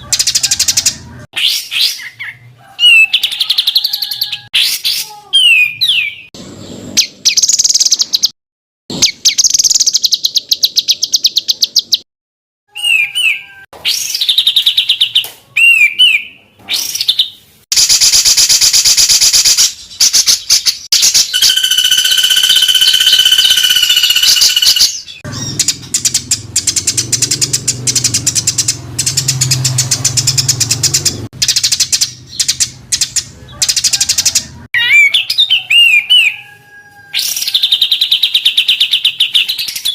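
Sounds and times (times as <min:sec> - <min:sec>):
songbird chattering and whistling: 0:00.0 - 0:06.3, 0:07.0 - 0:08.3, 0:08.9 - 0:12.0, 0:12.7 - 0:36.6, 0:37.2 - 0:39.9.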